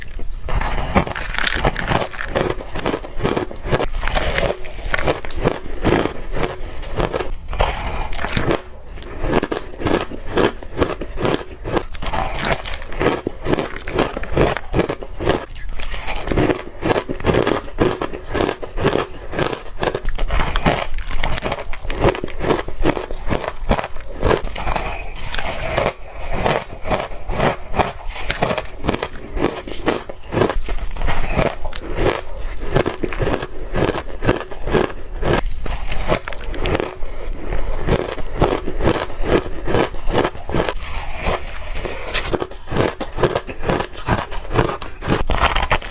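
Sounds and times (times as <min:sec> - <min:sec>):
person chewing ice: 0:00.0 - 0:45.9.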